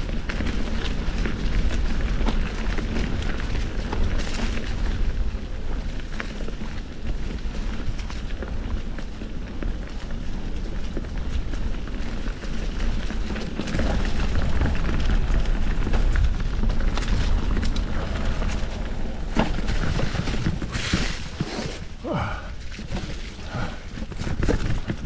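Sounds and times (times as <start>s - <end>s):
bike rattling over rough ground: 0.0s - 25.0s
bike tyre noise: 0.0s - 25.0s.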